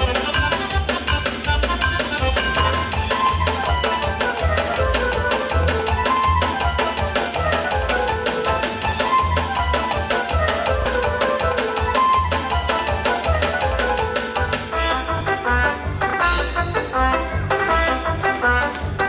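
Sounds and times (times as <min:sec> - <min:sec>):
music with bass beat: 0:00.0 - 0:19.0.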